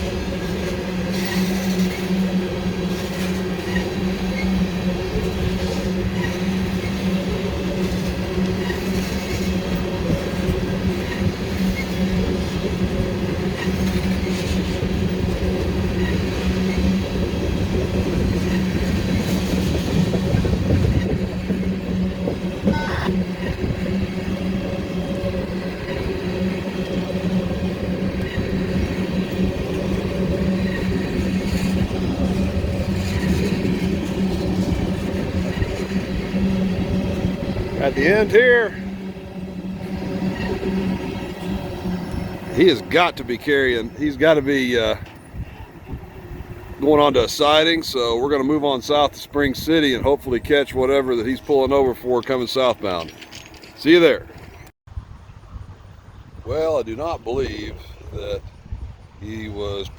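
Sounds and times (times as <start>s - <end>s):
train wheels on rails: 0.0s - 55.1s.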